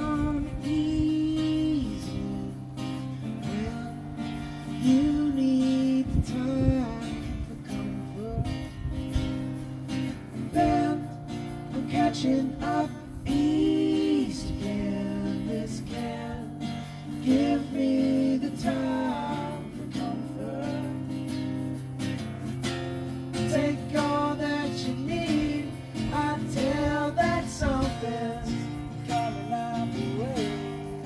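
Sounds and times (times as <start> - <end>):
man singing: 0.0 - 9.0, 10.4 - 21.3, 23.4 - 31.0
strummed acoustic guitar: 0.0 - 31.0.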